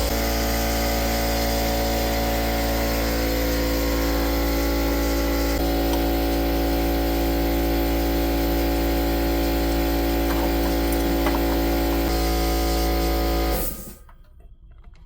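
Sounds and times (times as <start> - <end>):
machine motor humming: 0.0 - 14.0.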